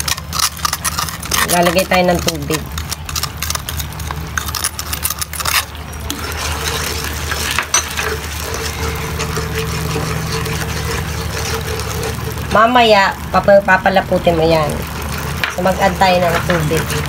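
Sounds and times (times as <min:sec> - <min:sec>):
spatula scraping a nonstick pan: 0:00.0 - 0:12.9, 0:14.5 - 0:17.0
low mechanical hum: 0:00.0 - 0:17.0.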